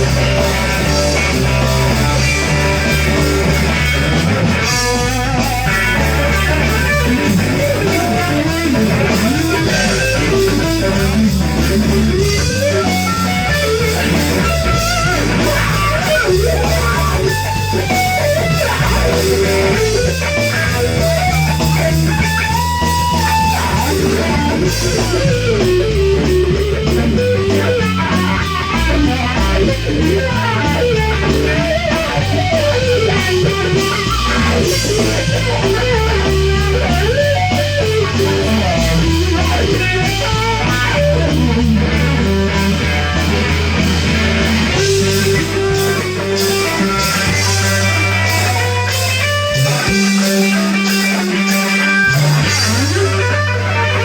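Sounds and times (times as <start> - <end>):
bass guitar: 0.0 - 54.0
drums: 0.0 - 54.0
electric guitar lead: 0.0 - 54.0.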